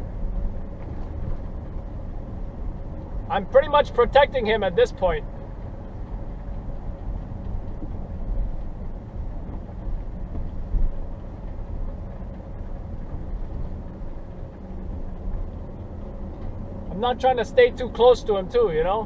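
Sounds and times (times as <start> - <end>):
tyres and engine rumbling in car: 0.0 - 19.0.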